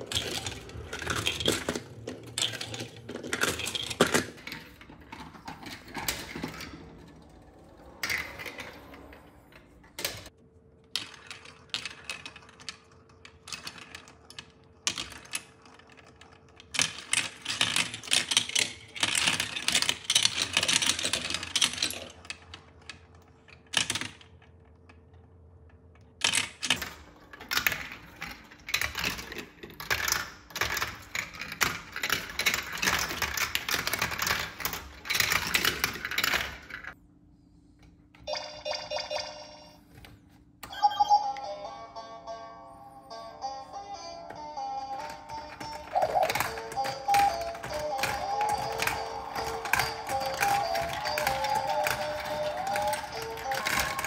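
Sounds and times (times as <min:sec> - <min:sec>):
plastic balls rattling through tracks: 0:00.0 - 0:37.0, 0:44.2 - 0:54.0.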